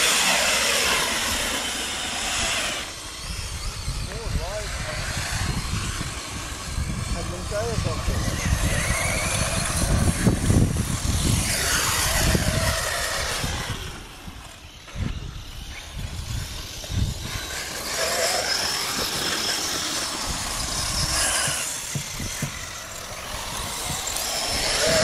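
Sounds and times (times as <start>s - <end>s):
rc car motors whining: 0.0s - 25.0s.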